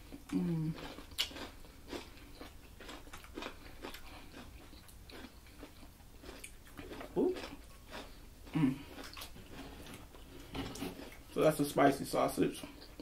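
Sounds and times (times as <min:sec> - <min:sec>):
crisp cucumber crunching: 0:00.0 - 0:13.0.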